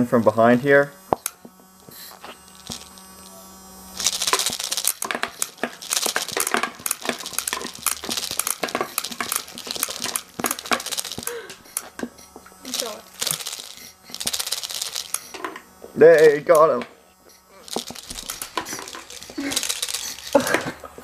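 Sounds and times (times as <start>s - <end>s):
motor humming: 0.0s - 21.0s
plastic pellets clattering on cardboard: 1.1s - 3.3s, 4.0s - 16.9s, 17.6s - 21.0s.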